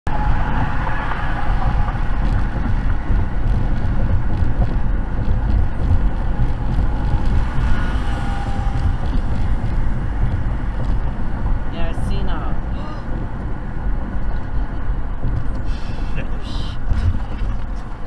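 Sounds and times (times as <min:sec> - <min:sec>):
car road noise: 0:00.0 - 0:18.0.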